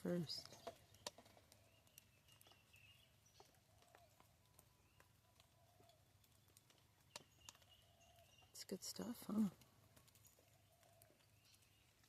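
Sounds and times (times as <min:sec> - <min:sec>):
faint bird calls: 0:00.0 - 0:06.5, 0:07.2 - 0:08.6, 0:10.2 - 0:12.0
birds pecking seed: 0:00.0 - 0:12.0.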